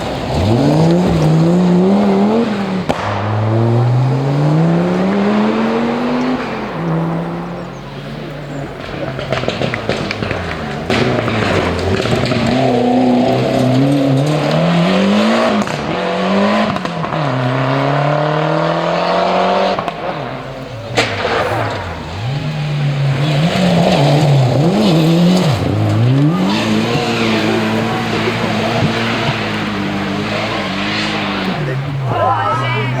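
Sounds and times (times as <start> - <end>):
sharp crack: 0.0 - 7.2, 8.2 - 32.8
rally car engines revving: 0.0 - 33.0.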